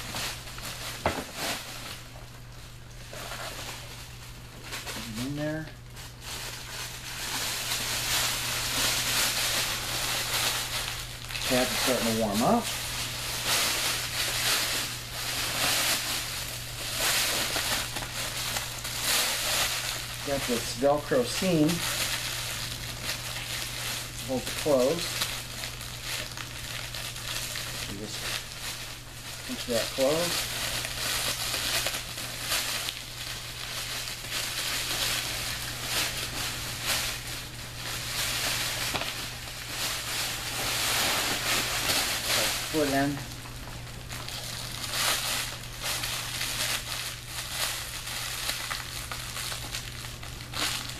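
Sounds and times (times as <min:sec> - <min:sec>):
plastic blanket crinkling: 0:00.0 - 0:50.9
steady low hum: 0:00.0 - 0:50.9.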